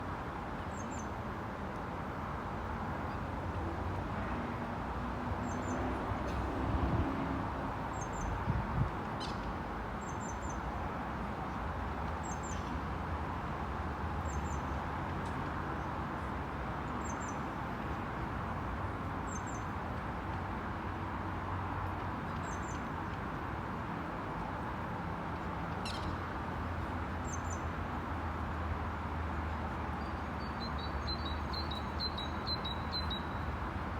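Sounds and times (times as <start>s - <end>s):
city background hum: 0.1s - 33.9s.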